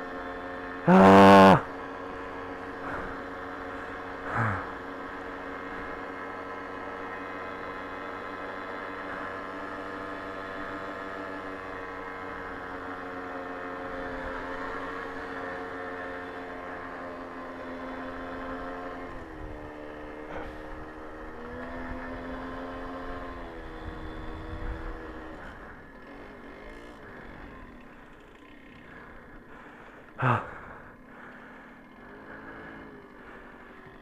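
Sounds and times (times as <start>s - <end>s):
moped engine droning: 0.0s - 34.0s.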